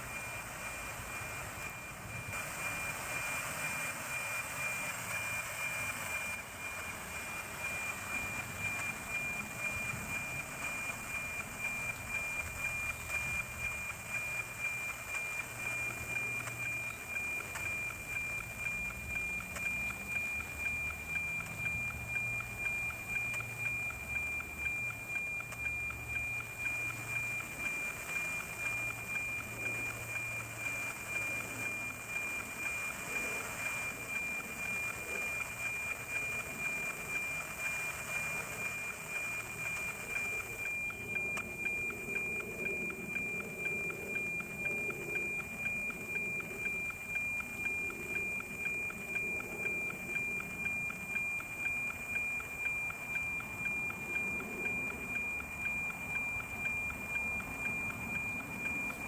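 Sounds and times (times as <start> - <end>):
radio hiss: 0.0 - 59.0
tick-tock signal: 0.0 - 59.0
high whistling tone: 7.6 - 59.0.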